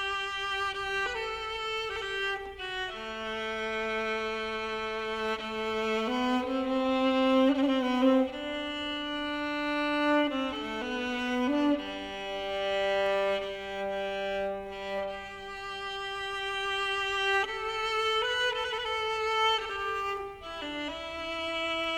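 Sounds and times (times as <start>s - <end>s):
slow bowed string music: 0.0s - 21.9s.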